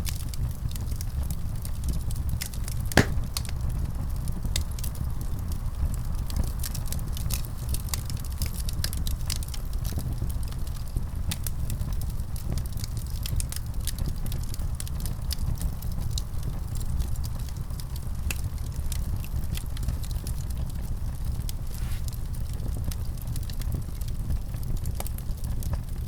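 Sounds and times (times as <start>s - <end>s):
wood fire crackling and popping: 2.2s - 3.7s, 4.8s - 26.0s.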